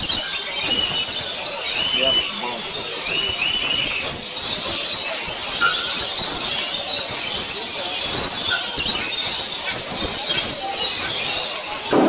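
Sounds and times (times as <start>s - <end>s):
flock of parrots screeching: 0.0s - 12.0s.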